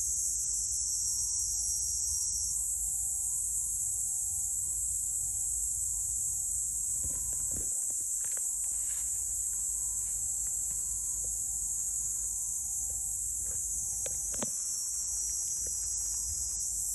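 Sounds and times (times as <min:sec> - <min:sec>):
insects singing: 0:00.0 - 0:16.9.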